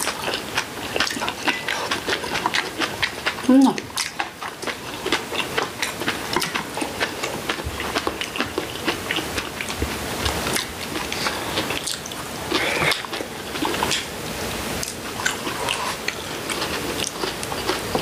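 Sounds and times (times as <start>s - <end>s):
wet chewing clicks: 0.0s - 14.1s, 14.8s - 18.0s.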